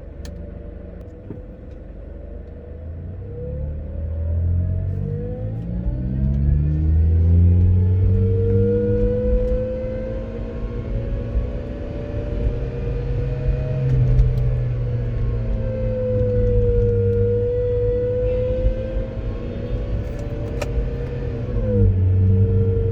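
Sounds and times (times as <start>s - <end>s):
car engine revving: 3.0s - 22.9s.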